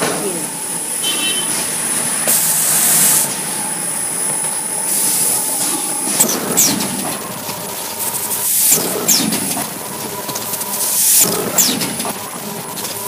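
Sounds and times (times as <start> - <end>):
machine high whine: 0.0 - 13.0.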